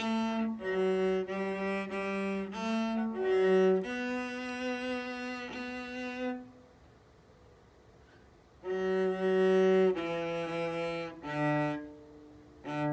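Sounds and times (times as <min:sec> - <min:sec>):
cello bowed notes: 0:00.0 - 0:06.6, 0:08.6 - 0:12.9.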